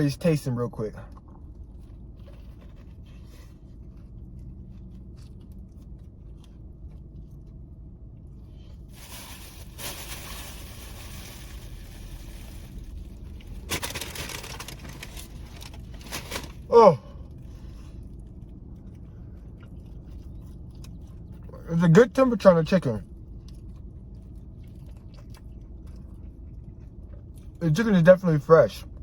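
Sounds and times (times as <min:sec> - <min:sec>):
low steady hum: 0:00.0 - 0:29.0
crunching of fried chicken: 0:01.1 - 0:28.2.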